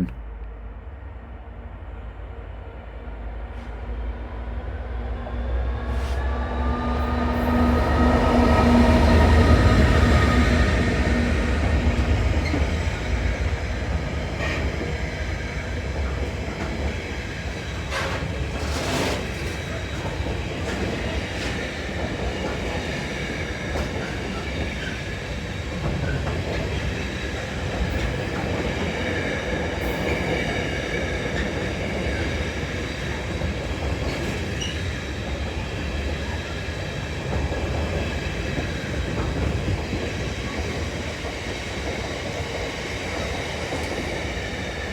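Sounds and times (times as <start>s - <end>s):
train wheels rumbling on rail: 0.4s - 44.9s.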